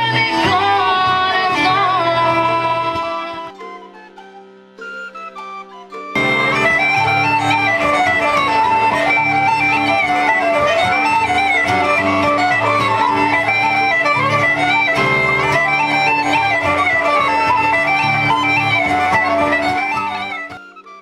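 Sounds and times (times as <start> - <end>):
acoustic guitar: 0.0 - 4.0, 6.2 - 20.7
bagpipes: 0.0 - 4.0, 6.1 - 21.0
wooden flute: 0.0 - 21.0.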